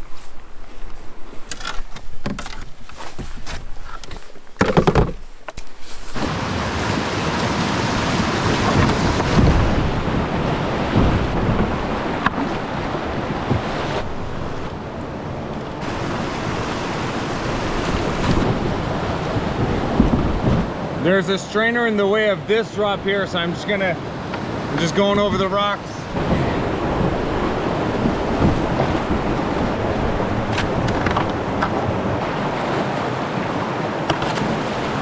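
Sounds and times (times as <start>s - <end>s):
rushing whitewater: 6.2s - 35.0s.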